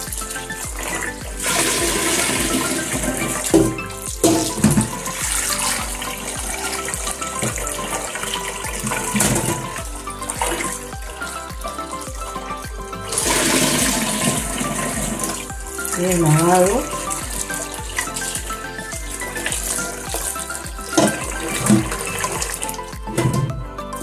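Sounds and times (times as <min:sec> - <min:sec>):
water splashing in a pot: 0:00.0 - 0:12.4, 0:13.1 - 0:23.5
background music with steady beat: 0:00.0 - 0:24.0.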